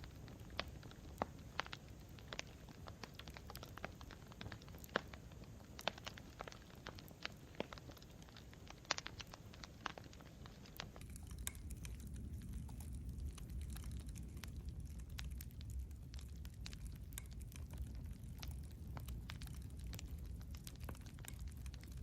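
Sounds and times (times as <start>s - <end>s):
campfire crackling: 0.0s - 22.0s
low rumble of burning wood: 0.0s - 22.0s
pops and snaps of burning wood: 0.0s - 22.0s.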